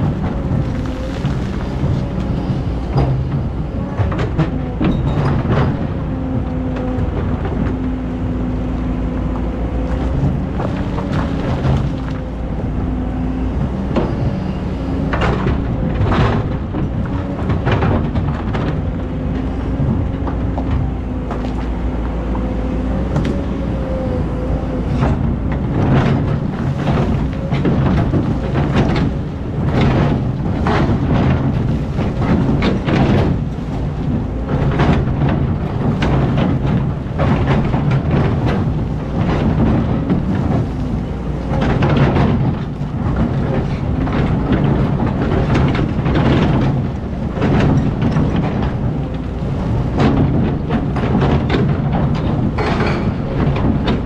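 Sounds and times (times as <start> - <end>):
excavator bucket clanking and scraping: 0.0 - 54.0
excavator diesel engine running: 0.0 - 54.0.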